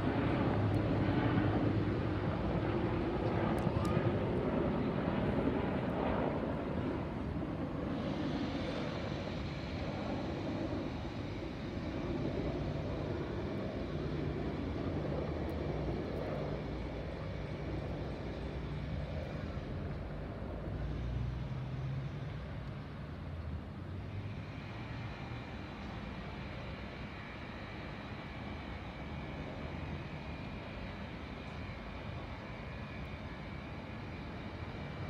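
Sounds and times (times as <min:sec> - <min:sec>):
distant helicopters flying past: 0:00.0 - 0:35.0.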